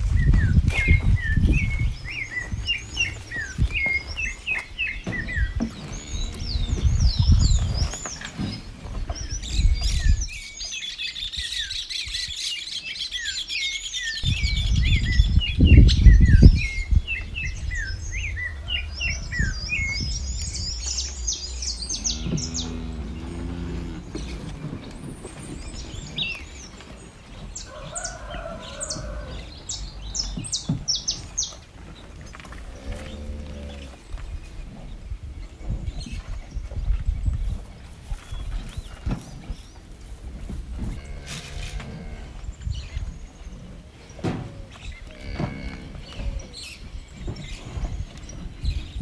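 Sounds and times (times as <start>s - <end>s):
low rumble on microphone: 0.0s - 10.6s, 14.2s - 49.0s
small birds chirping: 0.1s - 49.0s.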